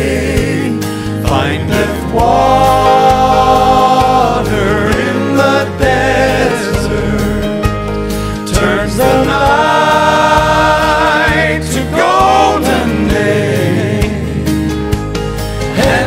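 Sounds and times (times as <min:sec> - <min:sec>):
men singing in harmony: 0:00.0 - 0:07.8, 0:08.4 - 0:14.8, 0:15.6 - 0:16.0
instrumental accompaniment: 0:00.0 - 0:16.0.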